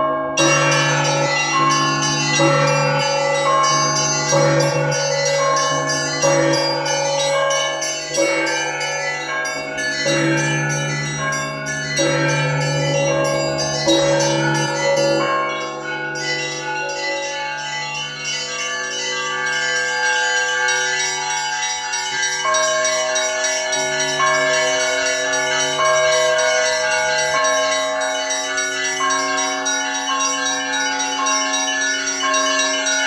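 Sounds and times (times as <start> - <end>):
deep church bell: 0.0 - 33.0
small bells ringing: 0.0 - 33.0.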